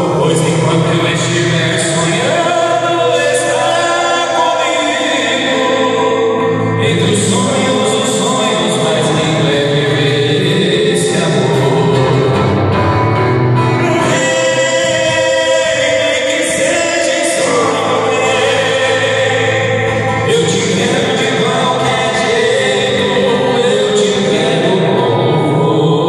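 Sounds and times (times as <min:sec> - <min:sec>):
two men singing together: 0:00.0 - 0:12.6, 0:13.7 - 0:26.0
strummed acoustic guitar: 0:00.0 - 0:26.0.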